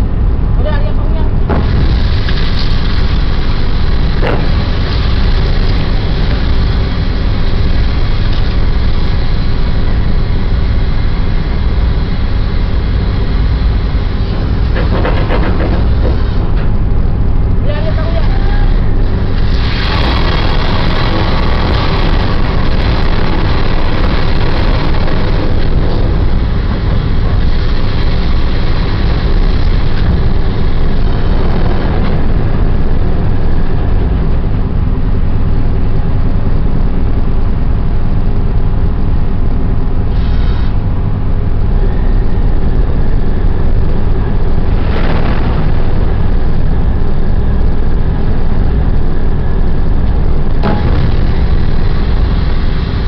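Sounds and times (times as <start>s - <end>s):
faint steady hums: 0.0s - 53.0s
ship machinery rumble: 0.0s - 53.0s.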